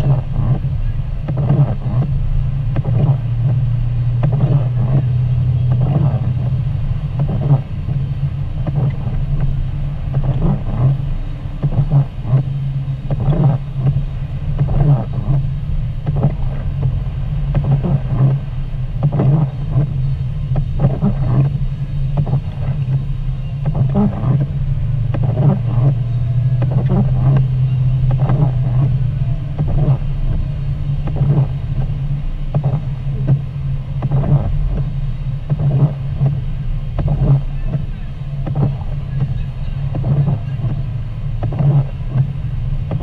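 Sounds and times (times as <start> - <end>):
car engine and tyre drone: 0.0 - 43.0.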